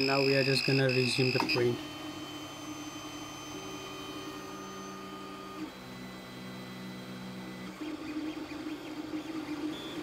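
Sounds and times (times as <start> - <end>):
stepper motors whining: 0.0 - 10.0.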